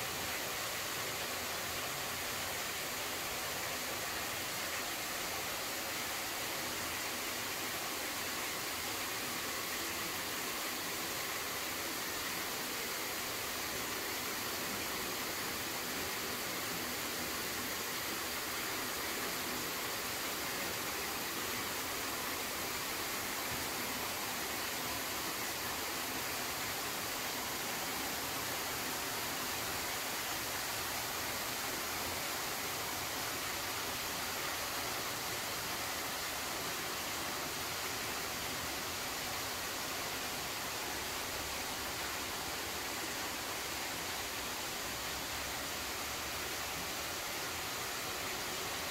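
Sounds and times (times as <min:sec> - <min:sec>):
steady hiss: 0:00.0 - 0:48.9.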